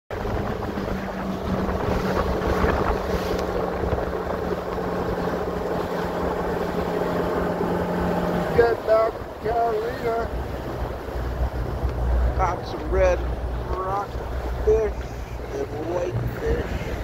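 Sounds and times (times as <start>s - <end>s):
boat motor humming: 0.1s - 17.0s
water rushing past hull: 0.1s - 17.0s
wind buffeting microphone: 0.1s - 17.0s.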